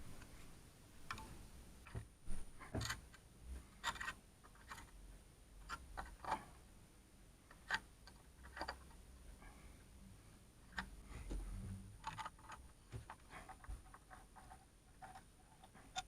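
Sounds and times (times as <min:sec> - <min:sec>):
faint low electrical hum: 0:00.0 - 0:16.0.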